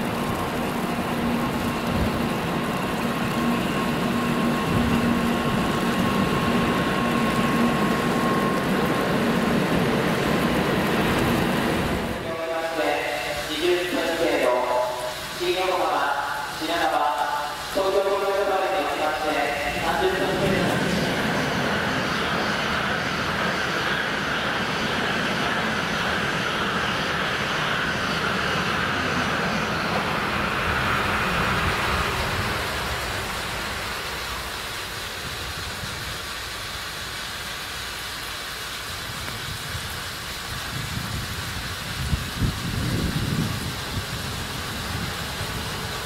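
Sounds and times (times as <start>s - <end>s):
high-speed train rushing past: 0.0s - 46.0s.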